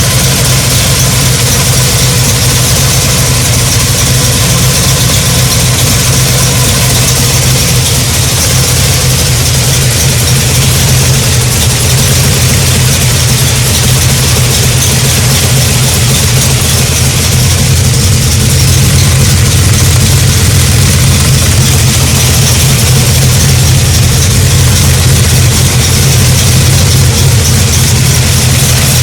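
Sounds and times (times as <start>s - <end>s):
supercharged engine idling: 0.0s - 29.0s.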